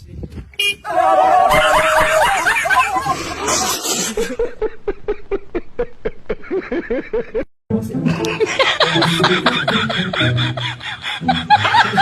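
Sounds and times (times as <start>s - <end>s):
person laughing rhythmically: 1.5s - 3.5s, 4.1s - 12.0s.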